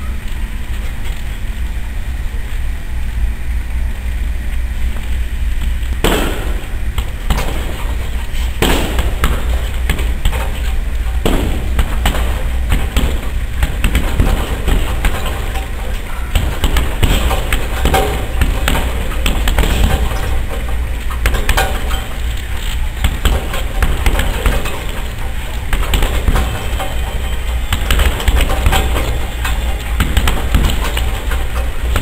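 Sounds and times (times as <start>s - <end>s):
punches thudding on heavy bag: 6.0s - 32.0s.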